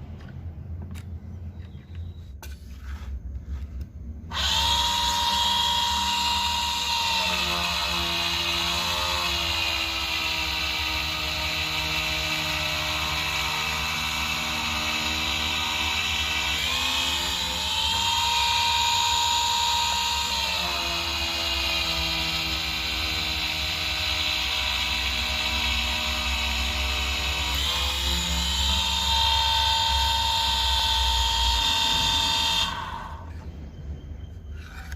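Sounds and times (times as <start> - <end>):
drill press motor running: 4.3 - 33.4.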